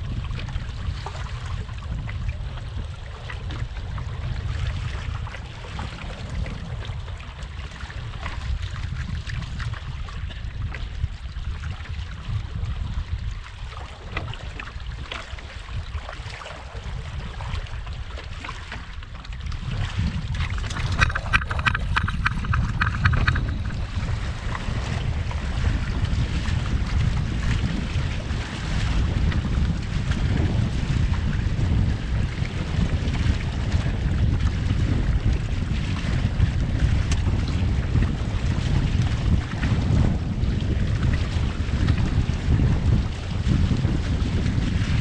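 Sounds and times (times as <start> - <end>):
water splashing against hull: 0.0 - 45.0
wind rumbling on microphone: 0.0 - 45.0.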